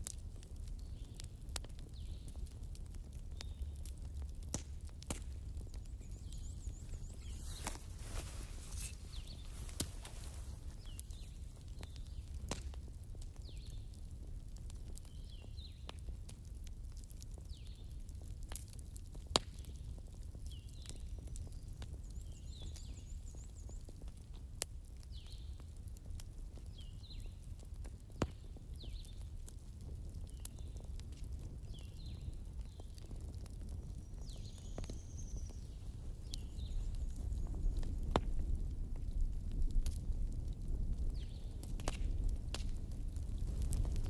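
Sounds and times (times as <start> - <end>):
bonfire crackling and popping: 0.0 - 44.0.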